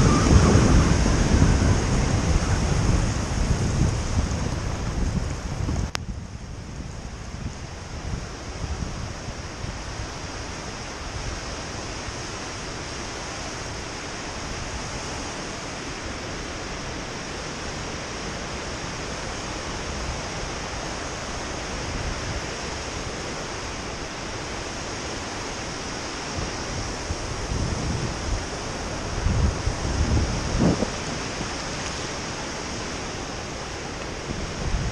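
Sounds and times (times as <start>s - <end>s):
wind rushing on microphone: 0.0s - 34.9s.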